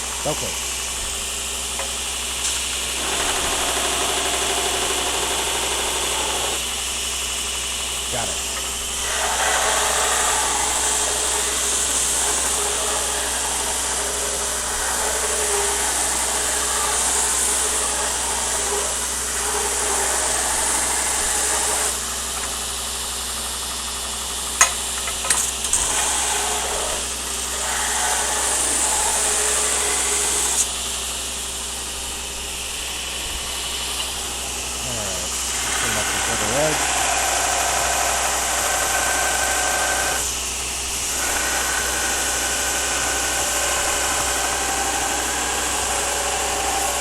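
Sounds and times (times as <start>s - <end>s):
belt grinder grinding blade: 0.0s - 47.0s.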